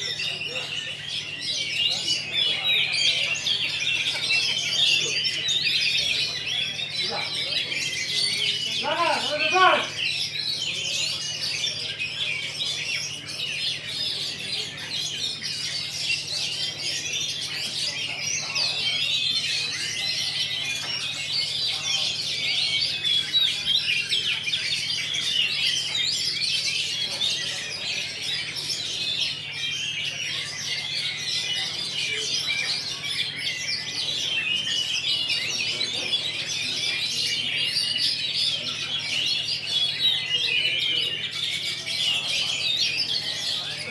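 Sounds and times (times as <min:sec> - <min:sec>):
birds singing in chorus: 0:00.0 - 0:43.9.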